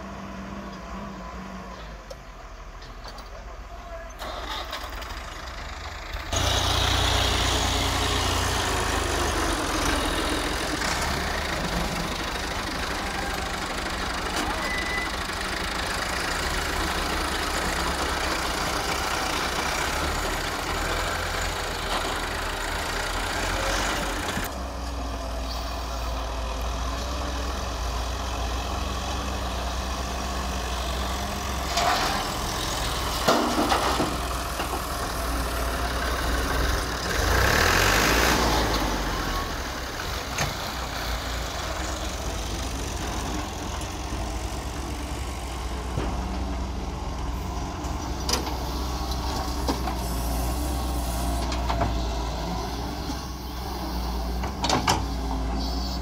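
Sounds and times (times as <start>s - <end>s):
excavator diesel engine digging: 0.0s - 56.0s
tractor engine idling: 0.0s - 56.0s.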